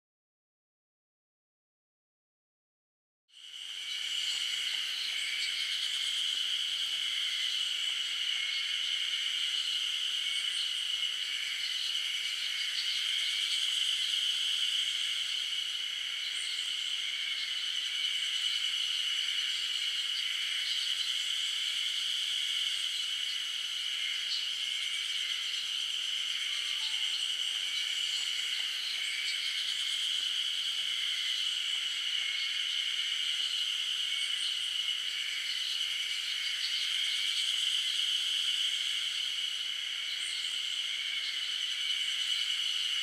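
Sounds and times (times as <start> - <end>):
high-pitched insect chorus: 3.3 - 43.0.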